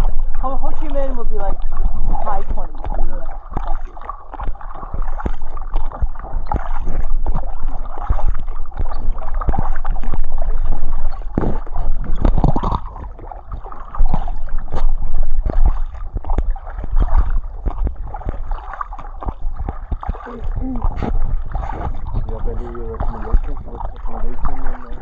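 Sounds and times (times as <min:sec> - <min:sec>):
water splashing: 0:00.0 - 0:25.0
wind rumbling on microphone: 0:00.0 - 0:25.0.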